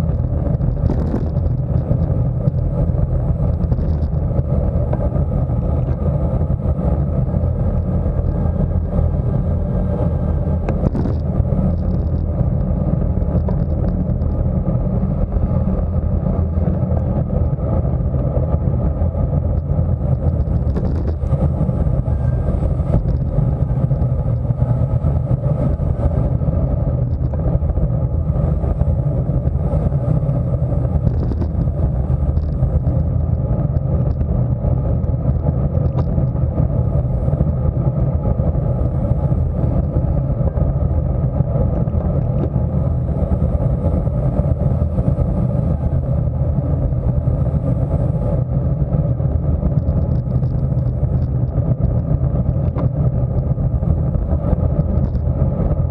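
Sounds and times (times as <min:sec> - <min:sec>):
road rumble: 0:00.0 - 0:55.9
wind on microphone: 0:00.0 - 0:55.9.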